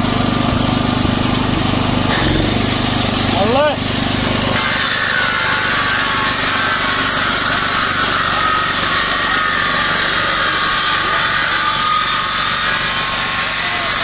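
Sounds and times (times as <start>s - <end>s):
petrol generator running: 0.0s - 14.0s
angle grinder cutting steel: 1.4s - 14.0s.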